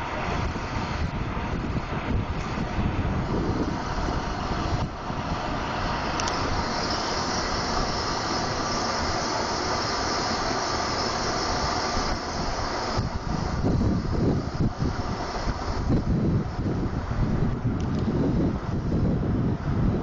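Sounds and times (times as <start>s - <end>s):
high hiss: 0.0s - 19.9s
steady rushing noise: 0.0s - 20.0s
wind buffeting microphone: 0.0s - 20.0s.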